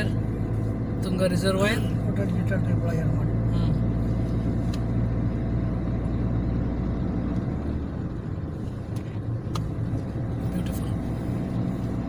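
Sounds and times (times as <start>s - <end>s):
car engine humming: 0.0s - 12.0s
road noise: 0.0s - 12.0s.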